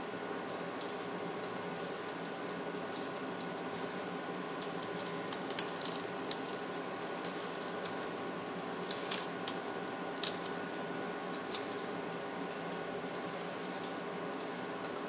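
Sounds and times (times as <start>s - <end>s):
computer fans and pump whirring: 0.0s - 15.0s.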